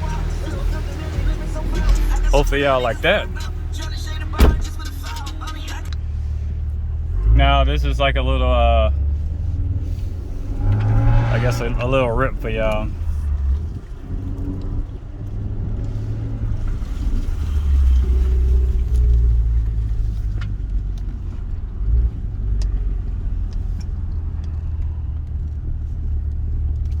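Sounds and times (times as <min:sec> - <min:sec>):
car exhaust note: 0:00.0 - 0:25.2.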